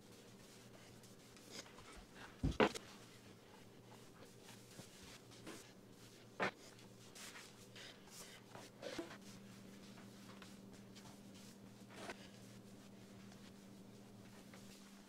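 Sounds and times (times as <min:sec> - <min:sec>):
low steady hum: 0:00.0 - 0:15.0
shuffling on hardwood floor: 0:00.1 - 0:15.0.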